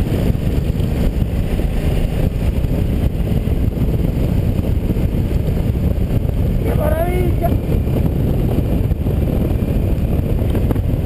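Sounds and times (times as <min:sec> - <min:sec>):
motorcycle engine rumble: 0:00.0 - 0:11.0
wind rush on microphone: 0:00.0 - 0:11.0.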